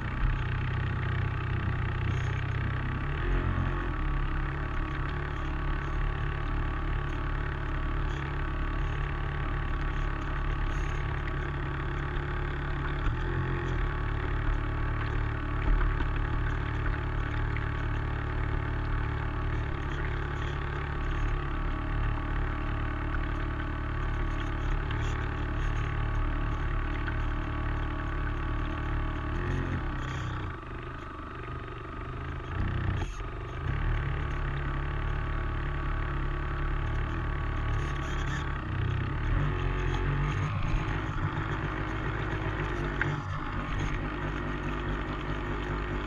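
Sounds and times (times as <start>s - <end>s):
model boat motor humming: 0.0s - 46.0s.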